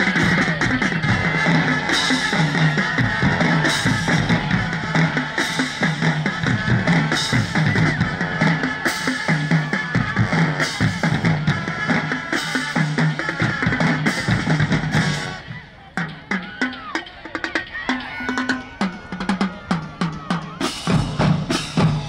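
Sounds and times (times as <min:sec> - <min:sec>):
bass drums: 0:00.0 - 0:15.4, 0:16.0 - 0:22.0
snare drums: 0:00.0 - 0:22.0.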